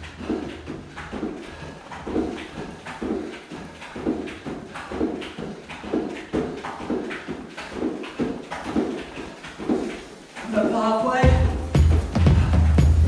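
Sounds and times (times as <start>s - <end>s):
bare feet tapping on plastic step: 0.0s - 10.6s.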